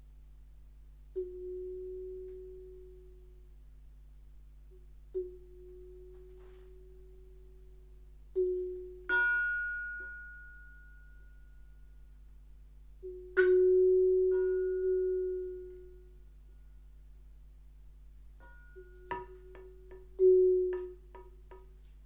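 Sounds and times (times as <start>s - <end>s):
soft held low tone: 0.0s - 22.0s.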